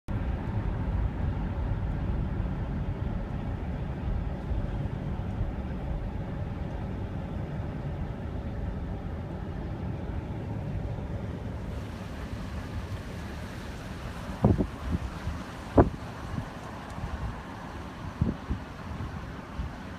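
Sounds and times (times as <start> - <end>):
car road and engine rumble: 0.1 - 19.9.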